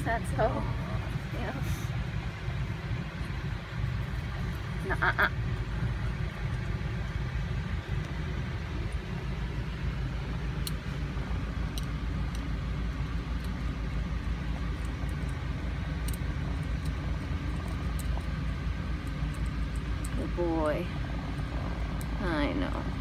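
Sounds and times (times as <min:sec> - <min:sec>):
vehicle motor rumbling: 0:00.0 - 0:23.0.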